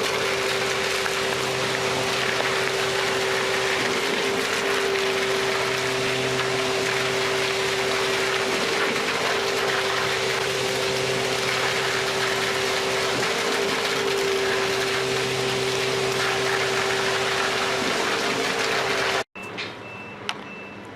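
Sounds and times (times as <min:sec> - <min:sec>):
machine humming and rattling: 0:00.0 - 0:19.3.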